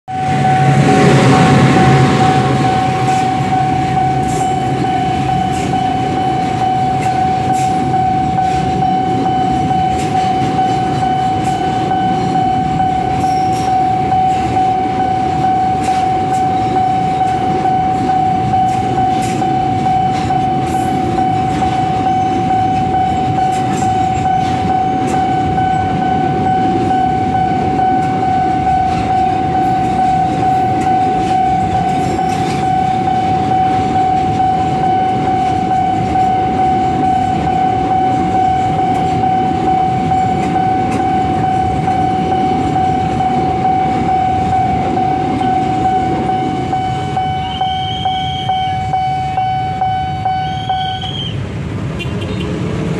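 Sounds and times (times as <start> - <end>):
freight wagons rumbling: 0.1 - 50.6
level crossing alarm tone: 0.1 - 51.4
diesel locomotive engine: 0.1 - 52.9.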